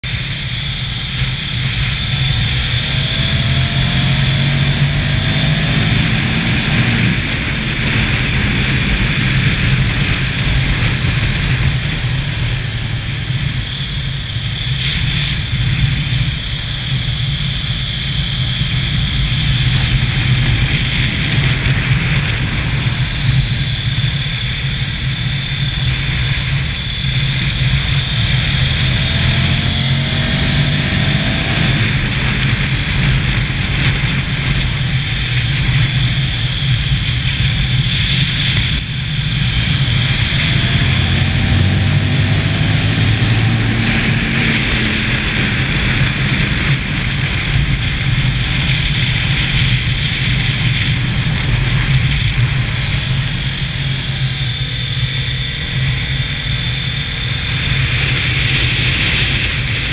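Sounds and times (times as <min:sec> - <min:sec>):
motorcycle engine running hard: 0:00.0 - 0:59.9
wind rush over microphone: 0:00.0 - 0:59.9.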